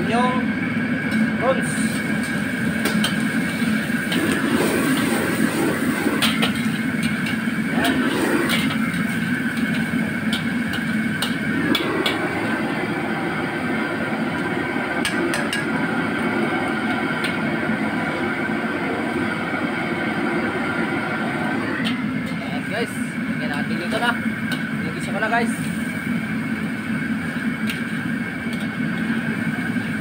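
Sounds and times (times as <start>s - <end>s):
gas burner roaring: 0.0s - 30.0s.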